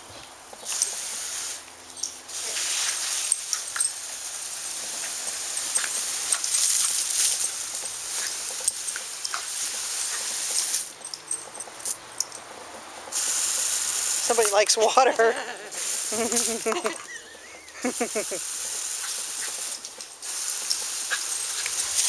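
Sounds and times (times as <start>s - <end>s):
hose spray hissing onto grass: 0.6s - 11.0s, 13.1s - 22.0s.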